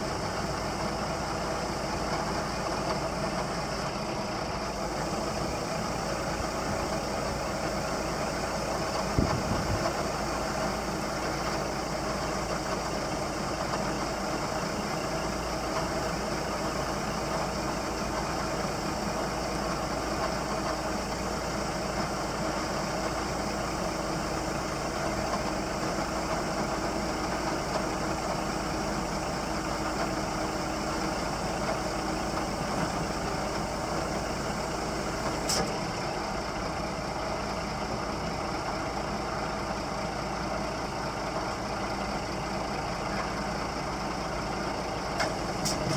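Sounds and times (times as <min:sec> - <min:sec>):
truck diesel engine idling: 0:00.0 - 0:45.9.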